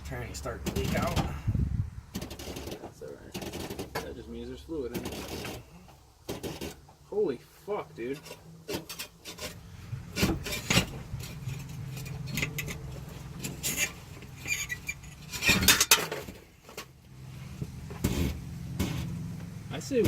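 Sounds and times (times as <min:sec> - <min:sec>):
metal clanks and scrapes: 0:00.1 - 0:01.5, 0:02.1 - 0:07.0, 0:07.6 - 0:20.0.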